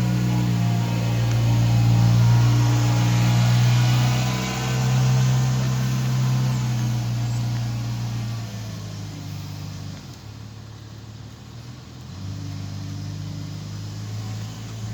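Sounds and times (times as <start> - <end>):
lawn mower engine droning: 0.0 - 14.9.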